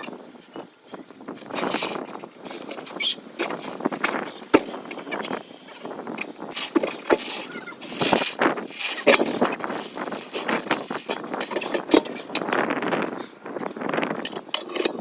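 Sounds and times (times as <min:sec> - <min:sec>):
hand tools clinking on metal: 0:01.5 - 0:15.0.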